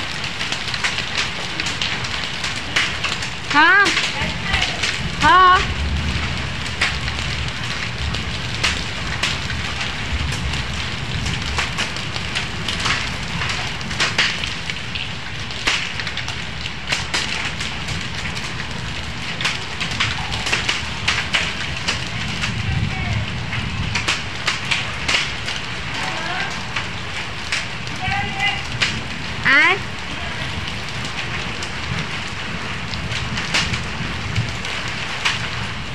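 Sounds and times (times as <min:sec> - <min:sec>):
hailstones hitting ground: 0:00.0 - 0:35.9
rain hiss: 0:00.0 - 0:35.9
wind rumble on microphone: 0:00.0 - 0:35.9.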